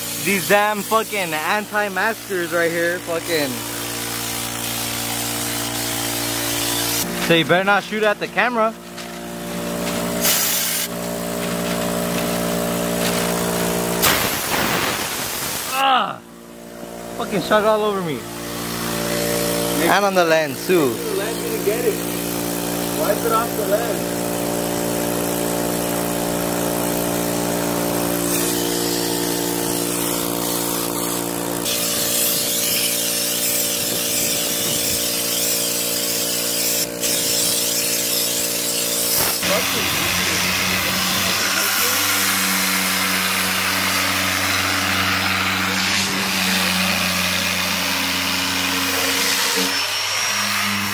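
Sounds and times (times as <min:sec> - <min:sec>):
spray gun hissing: 0:00.0 - 0:07.2, 0:09.2 - 0:15.8, 0:18.4 - 0:49.7
air compressor humming: 0:00.0 - 0:50.9.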